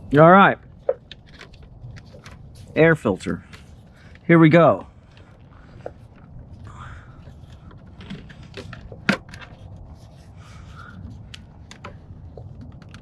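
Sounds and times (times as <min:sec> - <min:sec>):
air filter clicks and scrapes: 0:00.1 - 0:04.3, 0:04.9 - 0:13.0.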